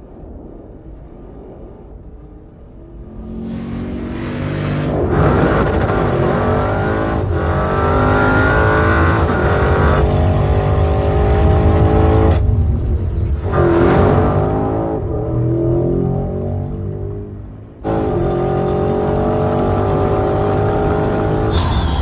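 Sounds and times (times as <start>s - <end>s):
car engine accelerating hard: 2.8s - 12.6s, 13.4s - 22.0s.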